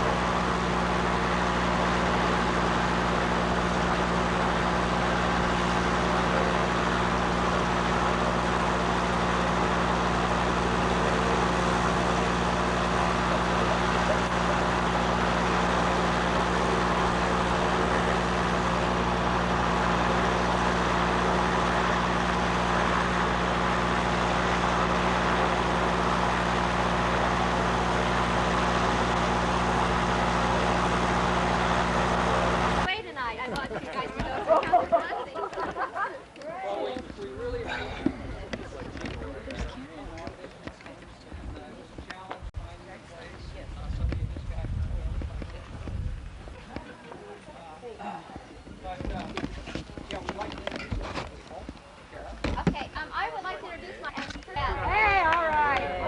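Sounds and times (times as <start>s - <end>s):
engine humming steadily: 0.0s - 56.0s.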